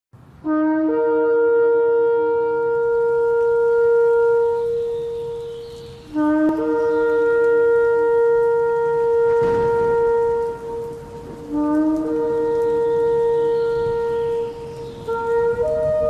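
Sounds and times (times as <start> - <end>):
shofar blasts: 0.4 - 16.0.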